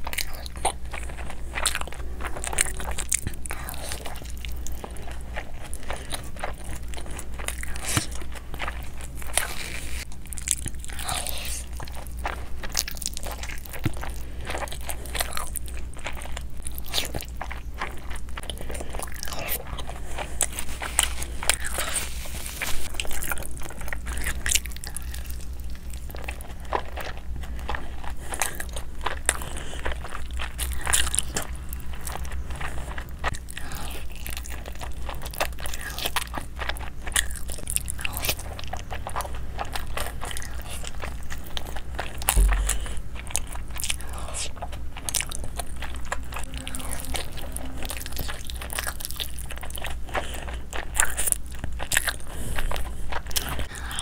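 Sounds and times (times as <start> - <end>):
crunching into crisp tacos: 0.0 - 54.0
steady low hum: 0.0 - 54.0
wet chewing and smacking: 0.0 - 54.0.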